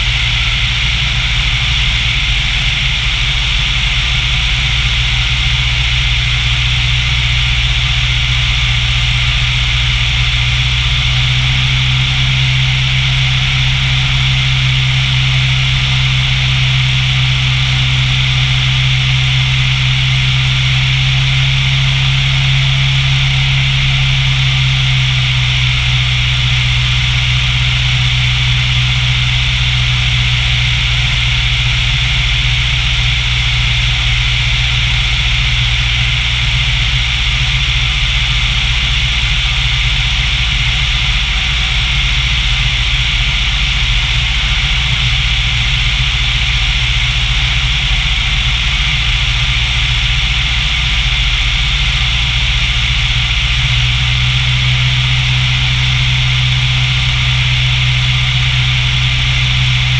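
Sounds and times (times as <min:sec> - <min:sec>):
propeller airplane droning: 0:00.0 - 0:59.9.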